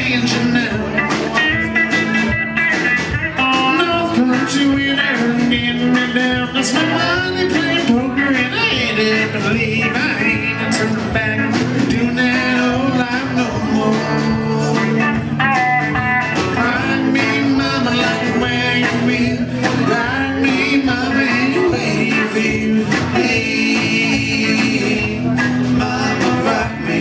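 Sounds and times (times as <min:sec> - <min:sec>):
live country rock band: 0:00.0 - 0:27.0.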